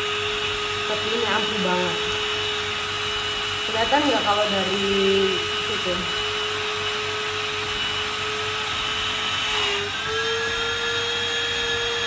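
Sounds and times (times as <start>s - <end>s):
vacuum pump high whine: 0.0s - 12.0s.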